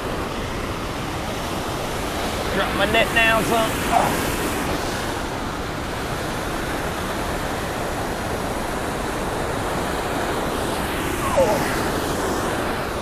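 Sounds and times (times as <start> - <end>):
river water pouring over dam: 0.0 - 13.0.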